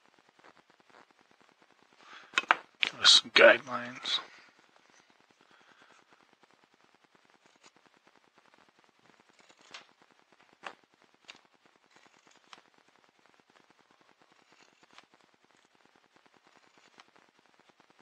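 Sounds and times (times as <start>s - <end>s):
faint background hiss: 0.0s - 18.0s.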